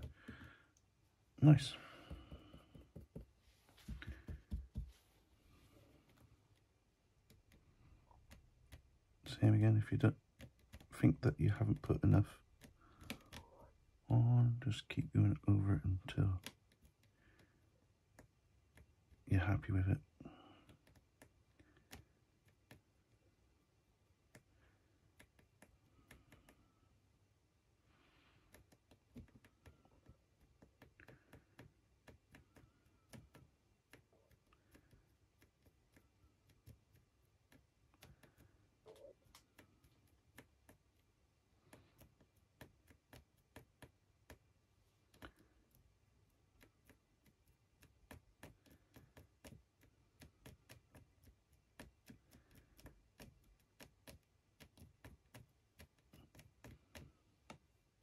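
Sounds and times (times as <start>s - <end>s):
faint little ticks and taps: 0.0s - 0.9s, 1.8s - 5.0s, 6.0s - 14.2s, 15.0s - 23.2s, 24.2s - 26.7s, 28.4s - 57.8s.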